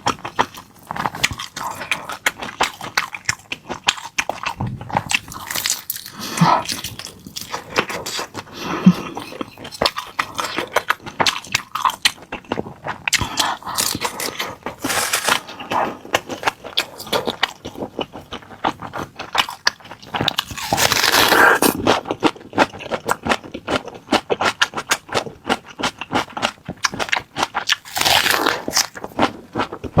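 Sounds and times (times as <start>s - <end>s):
person chewing crunchy food: 0.0s - 30.0s.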